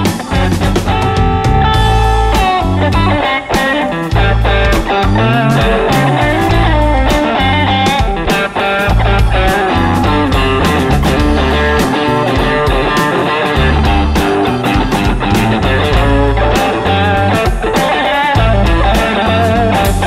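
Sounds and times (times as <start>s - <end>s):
bass guitar: 0.0s - 20.0s
drums and cymbals: 0.0s - 20.0s
electric guitar lead: 0.0s - 20.0s.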